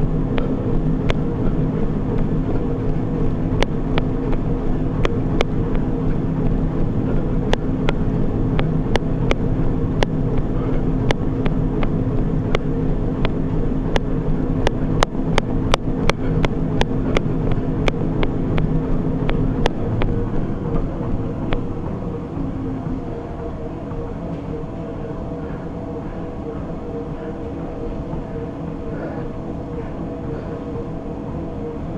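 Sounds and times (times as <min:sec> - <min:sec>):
treadmill motor and belt hum: 0:00.0 - 0:31.9.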